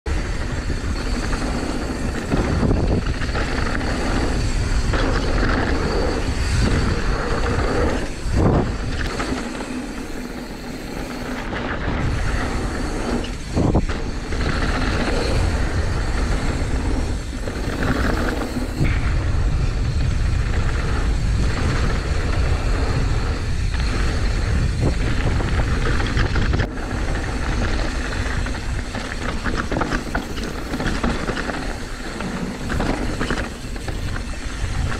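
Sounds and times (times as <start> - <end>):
bike rattling over bumps: 0.1 - 34.9
wind rumbling on microphone: 0.1 - 34.9.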